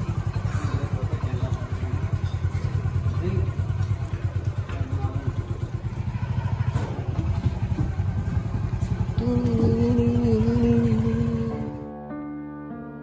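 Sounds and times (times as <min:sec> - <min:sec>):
motorcycle engine running: 0:00.0 - 0:11.9
steady humming tone: 0:00.0 - 0:11.9.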